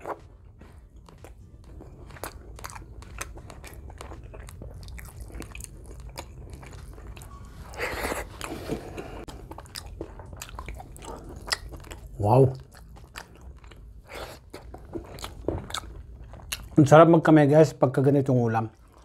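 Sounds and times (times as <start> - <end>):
person chewing food: 0.0 - 16.8, 18.7 - 19.0.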